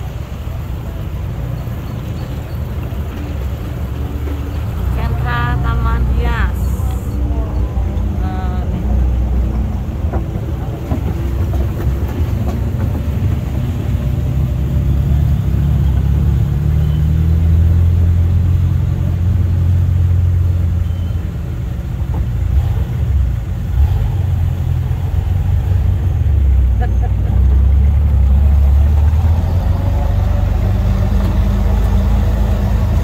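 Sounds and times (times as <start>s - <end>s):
jeep engine low rumble: 0.0s - 33.0s.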